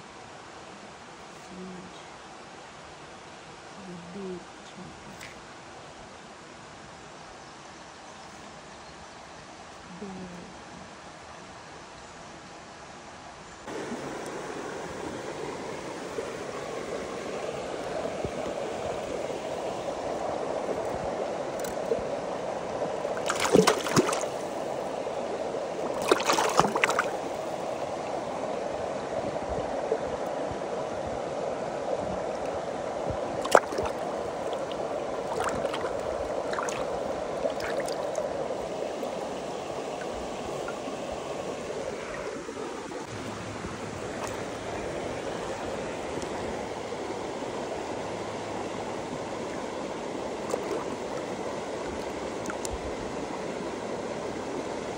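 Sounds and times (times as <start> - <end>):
mountain stream running: 0.0 - 54.9.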